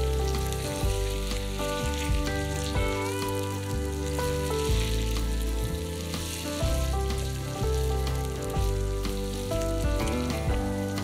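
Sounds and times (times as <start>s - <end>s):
background music: 0.0s - 11.0s
potatoes sizzling in oil: 0.0s - 11.0s
wooden spatula turning food: 0.0s - 11.0s.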